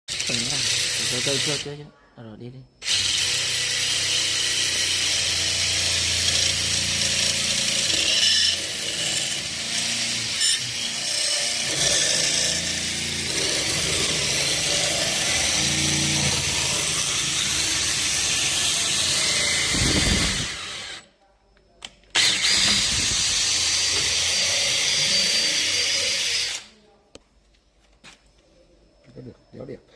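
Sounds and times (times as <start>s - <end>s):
power tool cutting wood: 0.1s - 1.7s, 2.8s - 21.0s, 22.2s - 26.7s.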